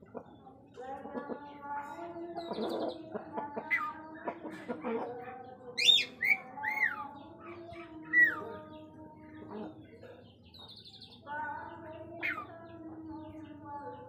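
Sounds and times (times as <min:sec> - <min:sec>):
birds calling: 0:00.0 - 0:14.0
faint steady background sounds: 0:00.0 - 0:14.0.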